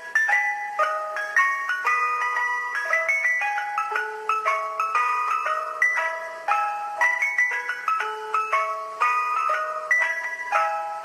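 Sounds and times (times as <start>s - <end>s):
ice cream truck jingle: 0.0s - 11.0s.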